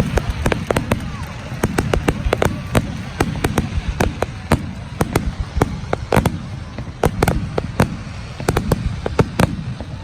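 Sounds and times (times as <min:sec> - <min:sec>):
fireworks bangs and cracks: 0:00.0 - 0:10.0
fireworks crackling: 0:00.0 - 0:10.0.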